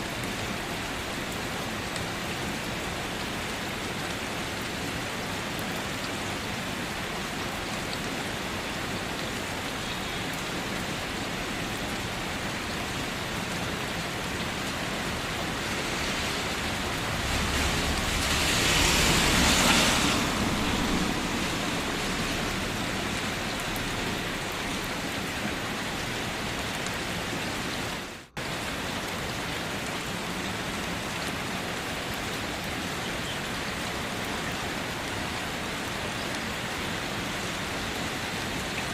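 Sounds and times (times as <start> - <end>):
steady rain on a surface: 0.0 - 38.9.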